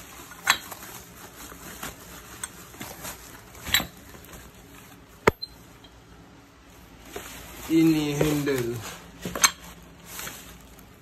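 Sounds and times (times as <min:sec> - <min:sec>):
plastic bags rustling: 0:00.0 - 0:05.8, 0:06.5 - 0:11.0.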